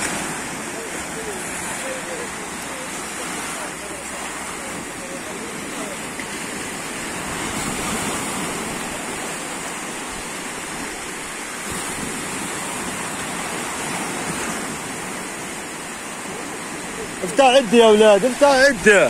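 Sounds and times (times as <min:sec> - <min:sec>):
sea surf washing onto shore: 0:00.0 - 0:19.0.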